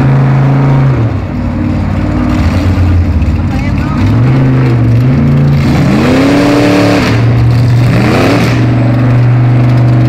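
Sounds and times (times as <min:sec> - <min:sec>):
drag car engine revving: 0:00.0 - 0:10.0.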